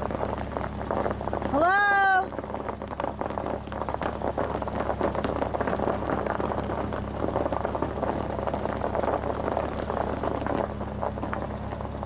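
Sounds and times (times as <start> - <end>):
car engine humming: 0.0 - 12.0
dense crackling noise: 0.0 - 12.0.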